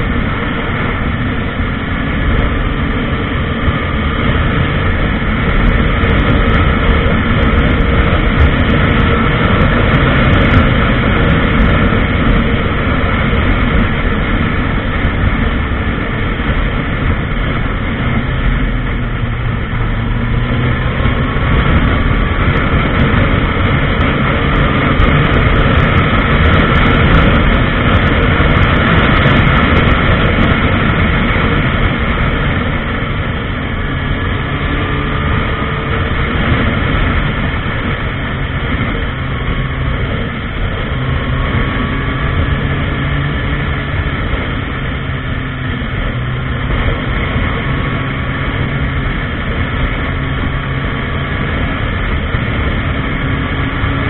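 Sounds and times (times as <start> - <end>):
motorcycle engine at speed: 0.0 - 54.0
wind rush on microphone: 0.0 - 54.0.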